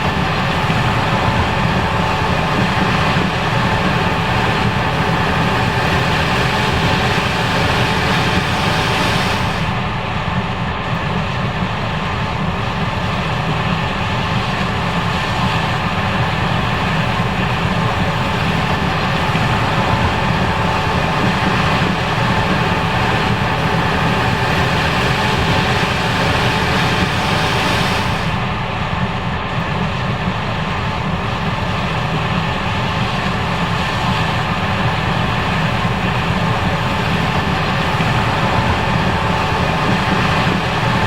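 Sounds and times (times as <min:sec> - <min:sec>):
combine harvester running: 0:00.0 - 0:41.0.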